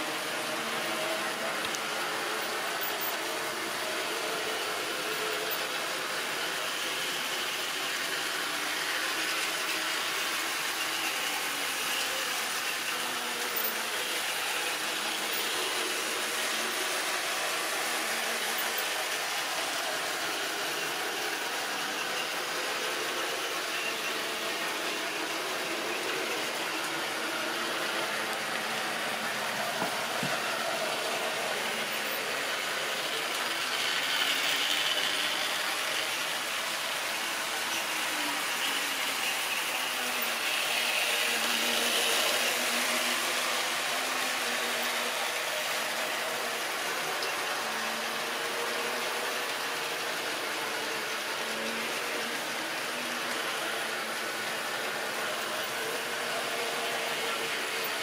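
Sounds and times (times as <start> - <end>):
model train running on rails: 0.0 - 58.0.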